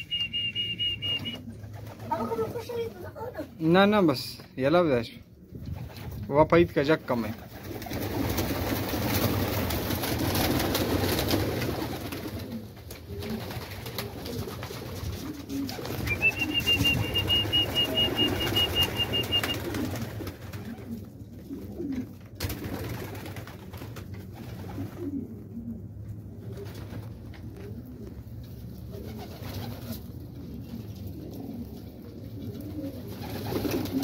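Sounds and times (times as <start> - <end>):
pigeons cooing: 0.0 - 2.8, 7.4 - 23.4, 24.1 - 34.0
wings flapping: 0.0 - 3.0, 5.6 - 6.3, 7.1 - 25.3, 26.4 - 34.0.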